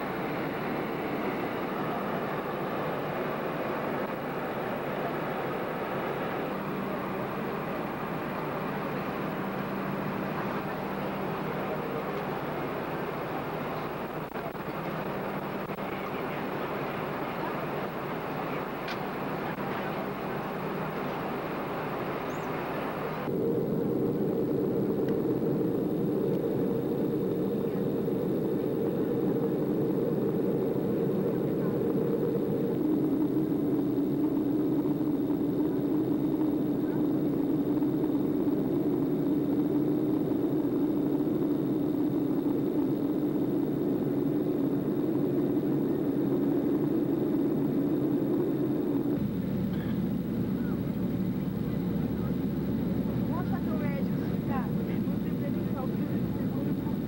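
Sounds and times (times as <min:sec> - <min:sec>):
airliner cabin noise: 0:00.0 - 0:57.0.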